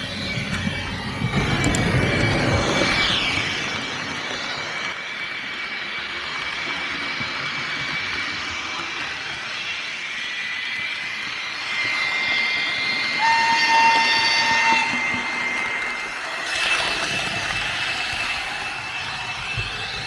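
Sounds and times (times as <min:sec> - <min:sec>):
high whining tones: 0:00.0 - 0:20.0.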